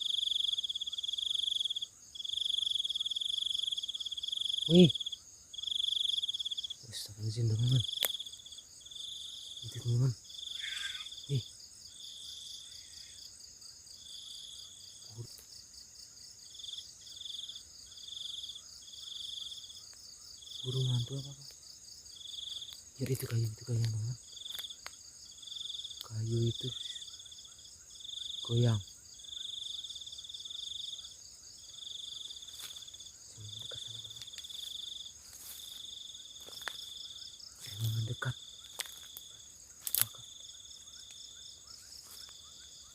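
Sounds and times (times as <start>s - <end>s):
crickets trilling: 0.0s - 42.9s
pulsed insect trill: 0.0s - 42.9s.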